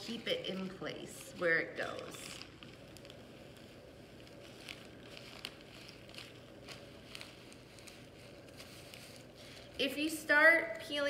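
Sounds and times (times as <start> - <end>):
tape being peeled back: 0.0 - 9.9.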